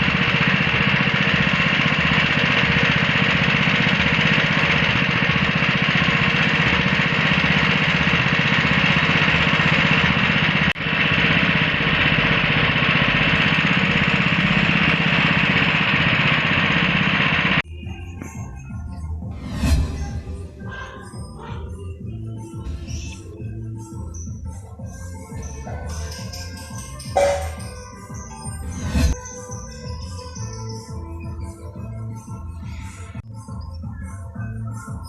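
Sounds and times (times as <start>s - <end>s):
hulling machine humming: 0.0s - 17.6s, 19.2s - 31.7s.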